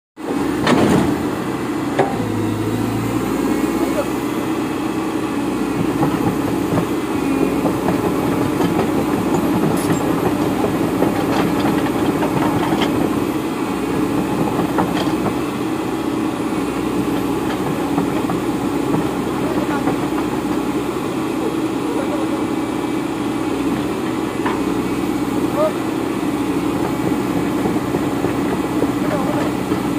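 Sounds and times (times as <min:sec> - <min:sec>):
excavator diesel engine running: 0:00.2 - 0:29.9.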